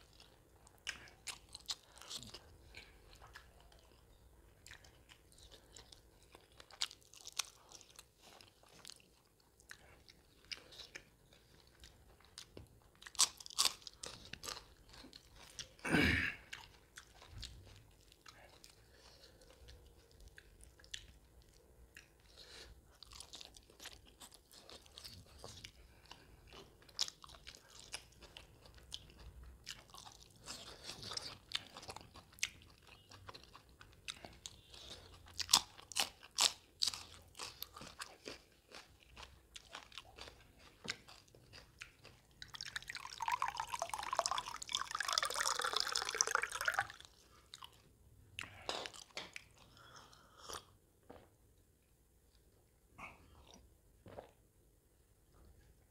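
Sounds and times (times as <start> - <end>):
wet chewing: 0.0 - 15.8, 16.4 - 47.8.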